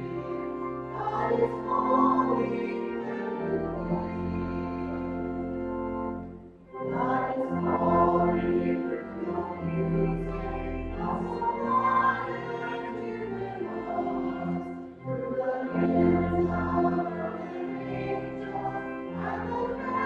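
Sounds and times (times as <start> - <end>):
choir singing: 0.0 - 5.5, 6.7 - 20.0
sustained accompaniment: 0.0 - 20.0.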